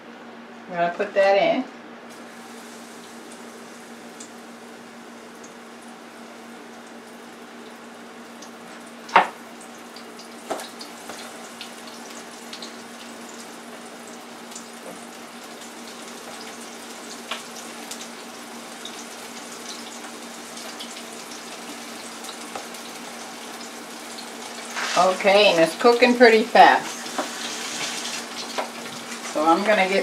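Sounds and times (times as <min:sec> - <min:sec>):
oil frying with crackling sizzle: 0:02.1 - 0:30.0.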